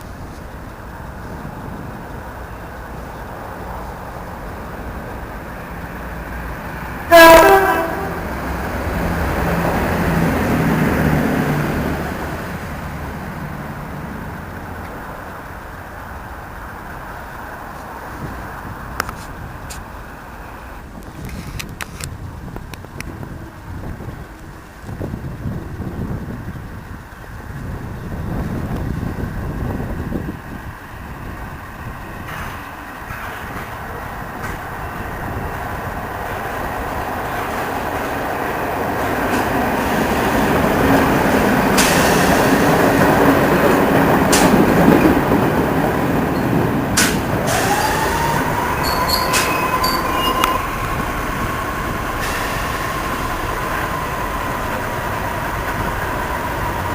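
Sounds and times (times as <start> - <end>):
train rumbling past: 0.0 - 56.9.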